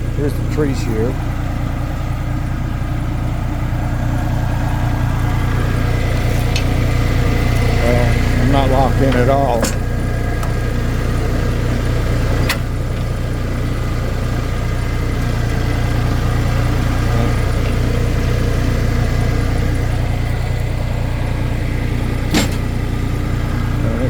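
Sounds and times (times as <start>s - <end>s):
diesel tractor engine idling: 0.0s - 24.0s.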